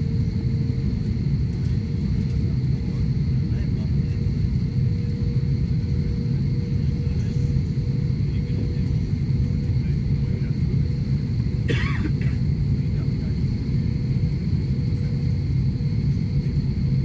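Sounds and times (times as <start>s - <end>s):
airliner low rumble: 0.0s - 17.0s
faint steady hum: 0.0s - 17.0s.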